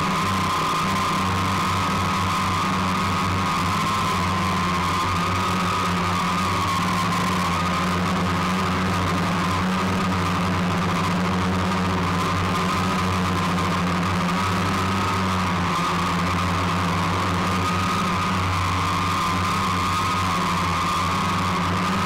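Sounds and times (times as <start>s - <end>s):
machine drone with whine: 0.0s - 22.0s.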